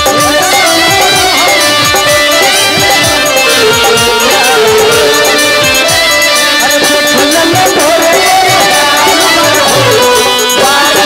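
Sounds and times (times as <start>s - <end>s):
folk stage music: 0.0s - 11.0s.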